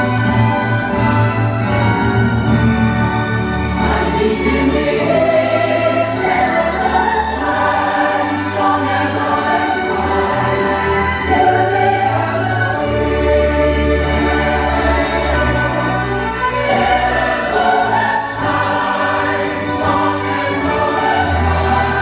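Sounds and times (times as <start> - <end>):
orchestral music: 0.0 - 22.0
choir singing: 2.4 - 22.0.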